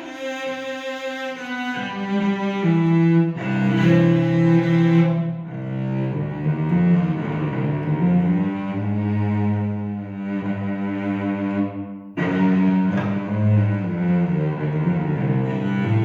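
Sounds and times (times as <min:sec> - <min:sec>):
bowed cello notes: 0:00.0 - 0:16.0.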